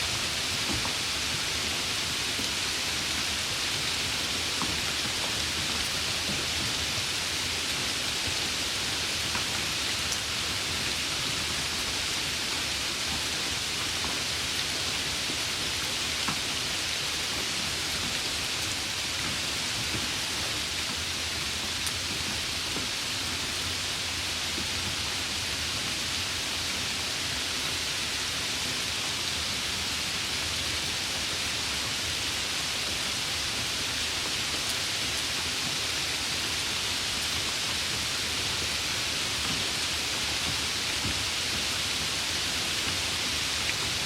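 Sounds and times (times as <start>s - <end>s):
steady rain hiss: 0.0s - 44.0s
raindrops ticking on surface: 0.1s - 44.0s.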